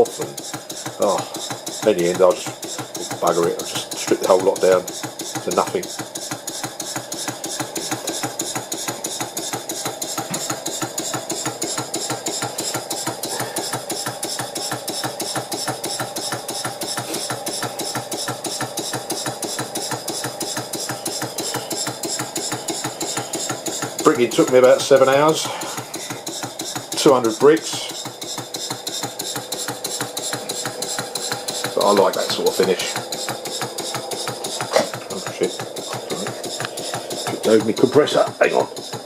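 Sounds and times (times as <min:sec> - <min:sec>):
crank and valve gear clatter: 0:00.0 - 0:39.0
engine exhaust puffs: 0:00.0 - 0:39.0.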